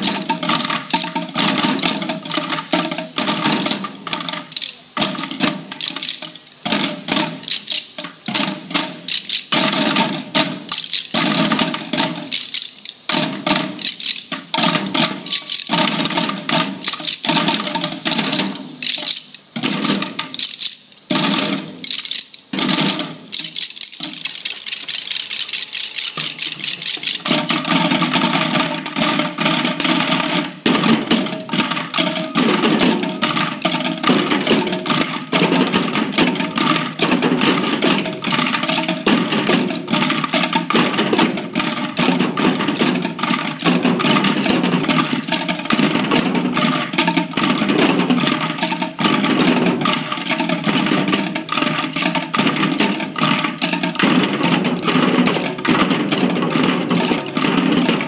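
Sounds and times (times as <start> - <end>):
drums: 0.0 - 58.0
sticks beating plastic buckets: 0.0 - 58.0.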